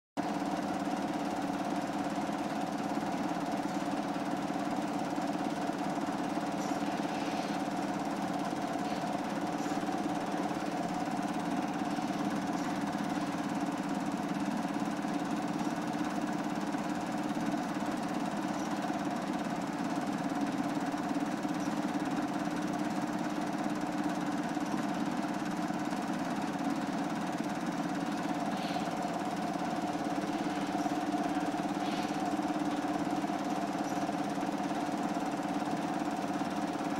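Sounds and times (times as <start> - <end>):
motor humming: 0.2 - 23.4, 24.1 - 36.9.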